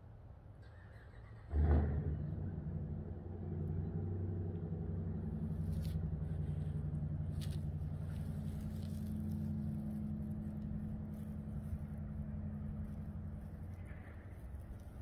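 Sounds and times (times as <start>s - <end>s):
vehicle engine running: 1.5s - 15.0s.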